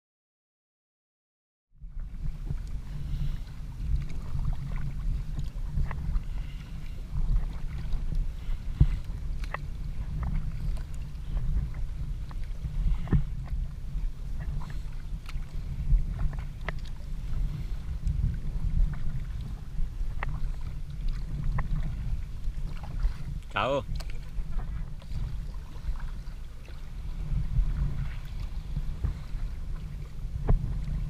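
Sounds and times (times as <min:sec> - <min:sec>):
paddle splashing water: 0:01.8 - 0:31.0
wind on microphone: 0:01.8 - 0:31.0.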